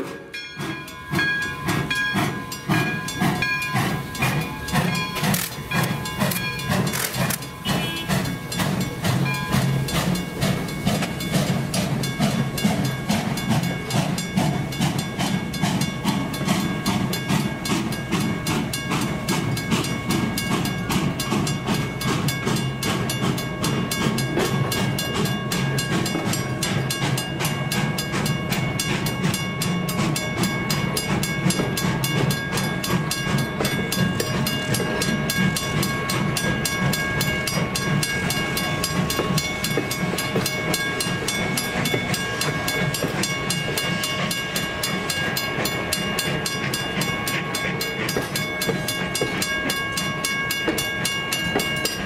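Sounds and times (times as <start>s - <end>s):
train rumbling: 0.0s - 52.0s
wheels clicking on rails: 0.0s - 52.0s.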